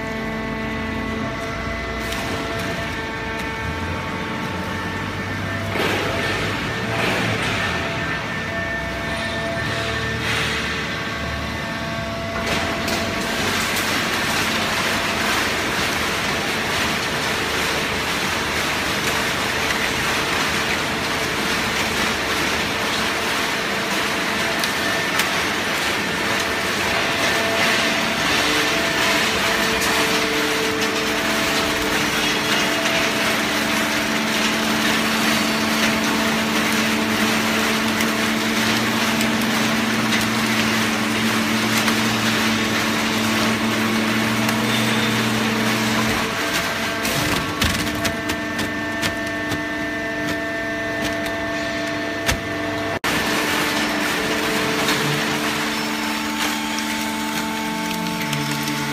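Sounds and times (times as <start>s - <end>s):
baling press mechanical din: 0.0s - 58.9s.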